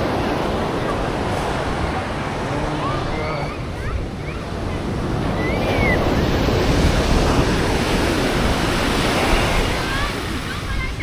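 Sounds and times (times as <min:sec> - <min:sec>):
ocean surf washing up: 0:00.0 - 0:11.0
wind buffeting microphone: 0:00.0 - 0:11.0.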